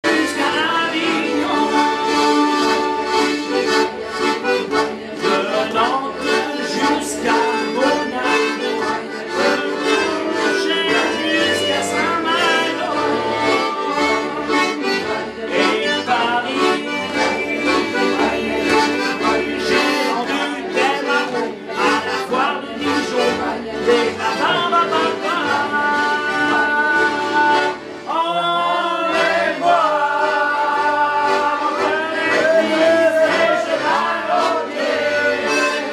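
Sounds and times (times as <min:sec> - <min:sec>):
accordion playing: 0:00.0 - 0:35.9.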